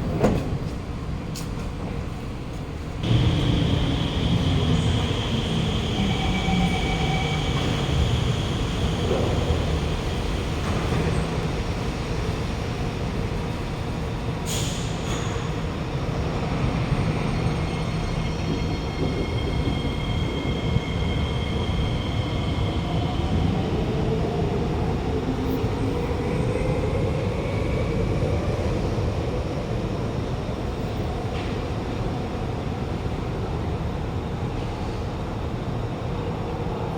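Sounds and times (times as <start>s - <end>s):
train wheels rumbling: 0.0s - 30.1s.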